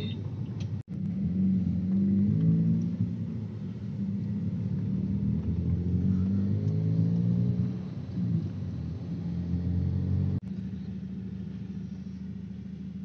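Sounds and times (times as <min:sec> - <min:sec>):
car engine hum inside cabin: 0:00.0 - 0:13.0
road noise: 0:00.0 - 0:13.0.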